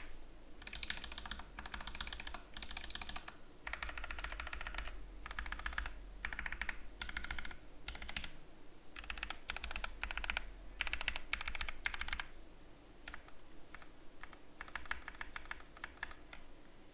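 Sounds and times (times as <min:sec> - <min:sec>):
typing on mechanical keyboard: 0:00.0 - 0:08.4, 0:09.0 - 0:12.3, 0:13.0 - 0:16.4.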